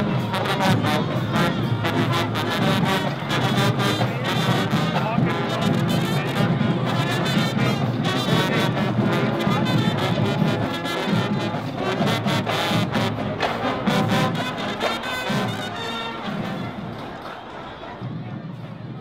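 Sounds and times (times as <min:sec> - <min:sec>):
drum beat: 0:00.0 - 0:17.2
brass band playing: 0:00.0 - 0:18.0.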